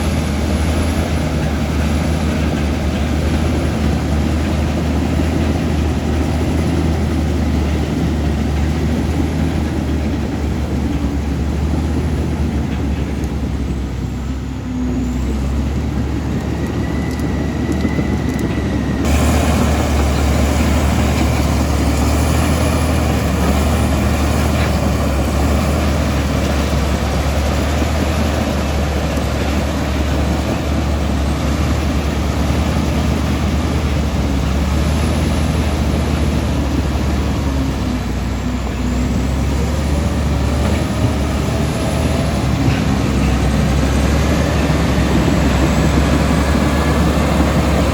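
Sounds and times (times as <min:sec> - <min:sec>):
bulldozer diesel engine rumbling: 0:00.0 - 0:47.9.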